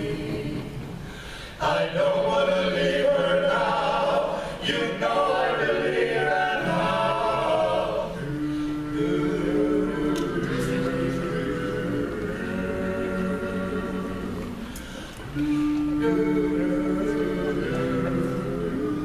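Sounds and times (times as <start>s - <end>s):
male vocal quartet singing: 0.0s - 19.0s.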